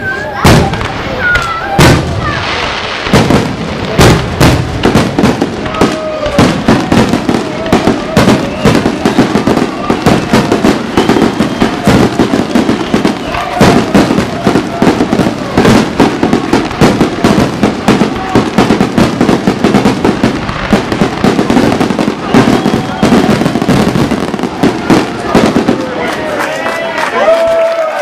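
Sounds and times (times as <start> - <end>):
fireworks shells bursting: 0.1 - 26.1.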